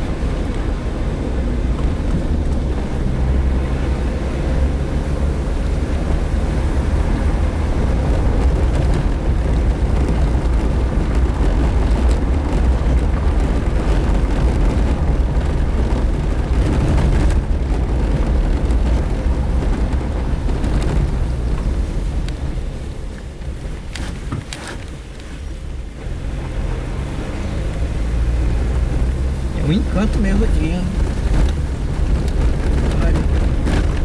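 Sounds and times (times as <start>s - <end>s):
car engine and road noise rumble: 0.0s - 34.0s.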